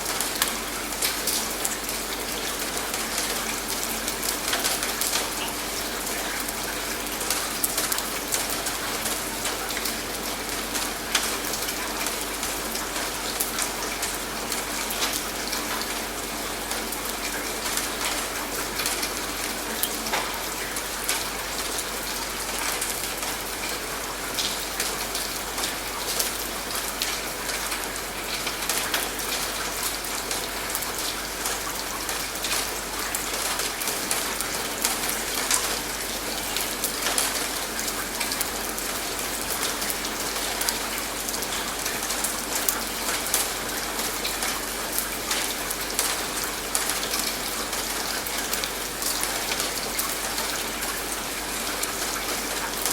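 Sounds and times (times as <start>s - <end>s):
rain falling: 0.0s - 52.9s.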